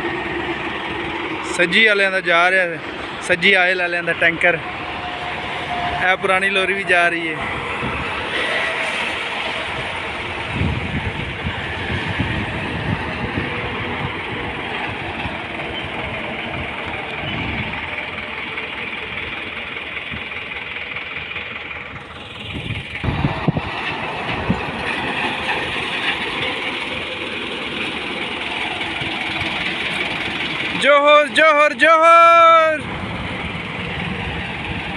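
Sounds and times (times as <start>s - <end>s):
lorry engines and traffic rumble: 0.0s - 34.9s.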